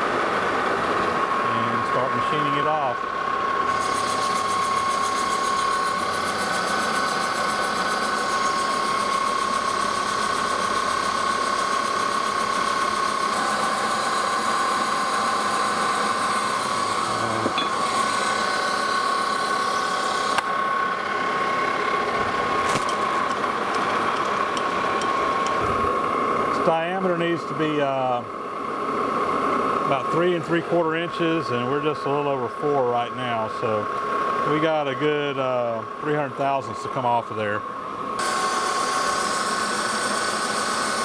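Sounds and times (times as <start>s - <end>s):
metal lathe cutting with high whine: 0.0s - 41.0s.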